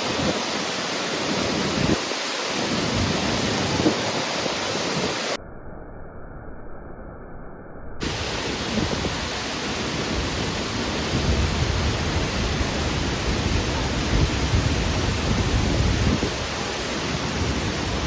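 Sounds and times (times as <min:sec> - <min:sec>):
waterfall rushing: 0:00.0 - 0:05.4, 0:08.0 - 0:18.0.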